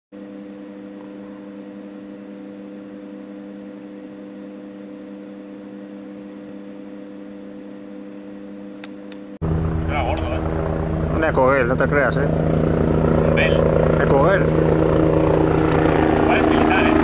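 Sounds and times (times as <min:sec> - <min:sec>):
steady hum of fixed tones: 0:00.2 - 0:17.0.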